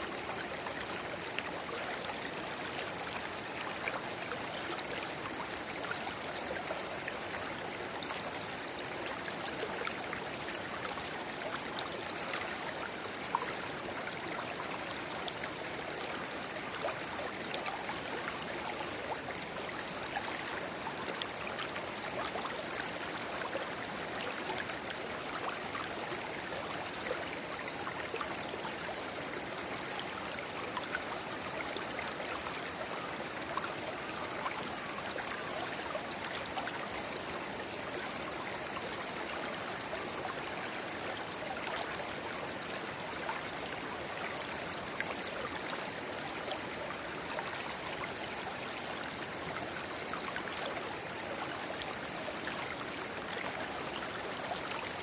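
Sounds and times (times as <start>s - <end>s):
river babbling: 0.0s - 55.0s.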